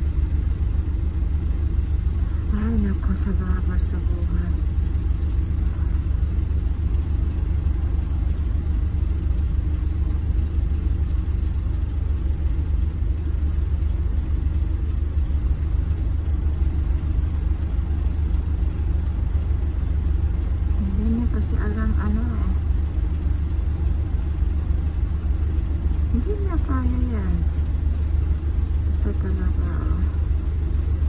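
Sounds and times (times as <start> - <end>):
bus engine idling: 0.0 - 31.0.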